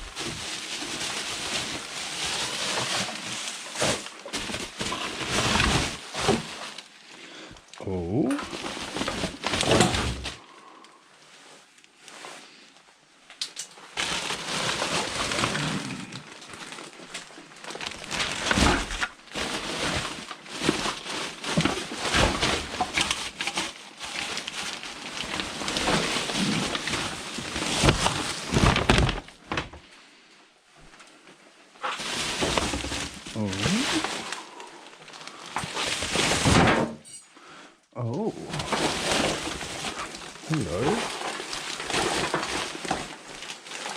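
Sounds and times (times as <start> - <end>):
rubbish rustling and crackling: 0.0 - 7.7, 8.4 - 10.6, 13.6 - 30.2, 30.8 - 36.9, 38.2 - 43.9.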